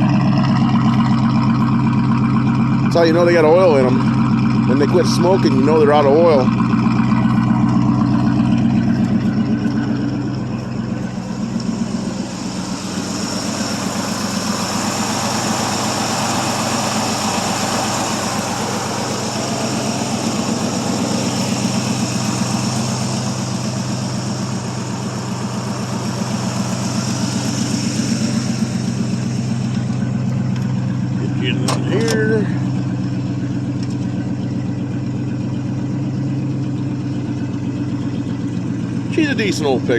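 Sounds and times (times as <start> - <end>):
pickup engine idling: 0.0 - 39.9.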